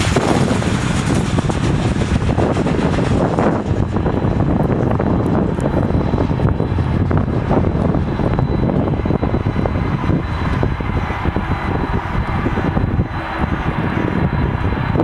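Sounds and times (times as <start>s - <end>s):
faint high jet whine: 0.0s - 15.0s
jet engines rumbling: 0.0s - 15.0s.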